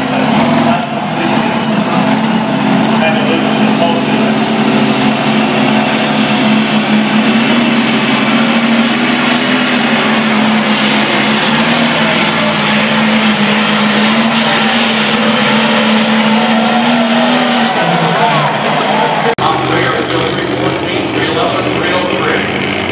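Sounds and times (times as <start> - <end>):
diesel tractor engine under load: 0.0 - 22.9.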